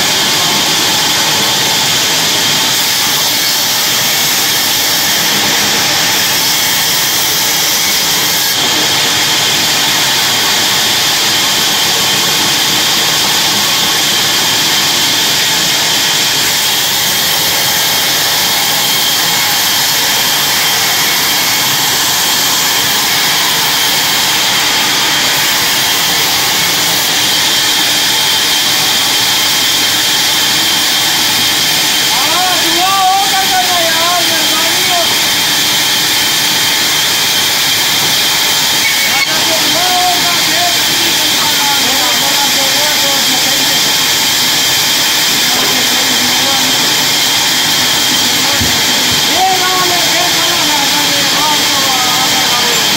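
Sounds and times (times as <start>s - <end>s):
bandsaw sawing a log: 0.0s - 52.9s.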